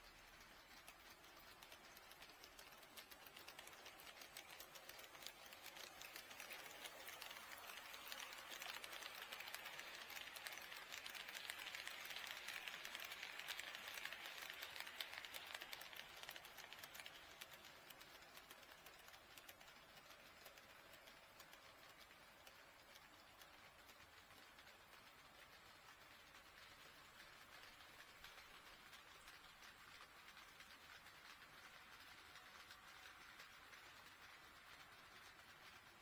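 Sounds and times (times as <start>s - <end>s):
model train wheels clicking on rail: 0.0s - 36.0s.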